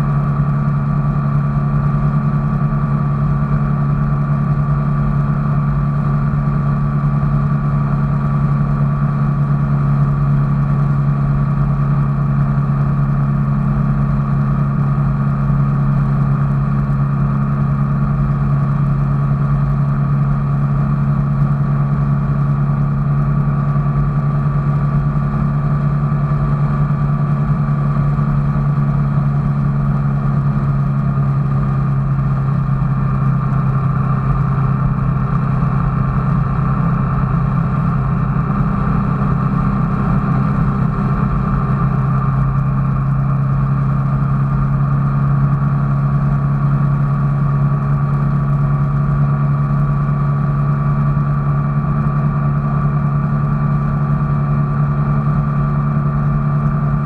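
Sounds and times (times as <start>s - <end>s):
motor vehicle engine drone: 0.0s - 57.0s.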